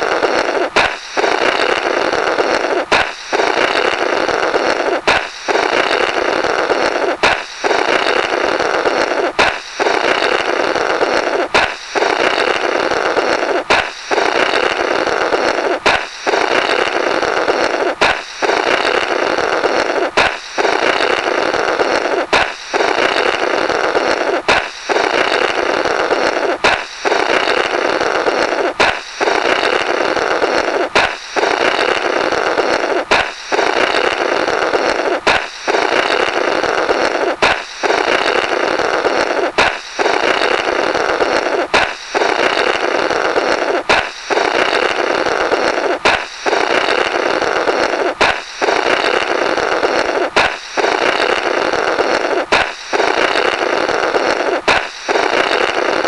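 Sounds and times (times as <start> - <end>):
balloon popping: 0.0 - 56.0
buzzy blast through balloon rubber: 0.0 - 56.0.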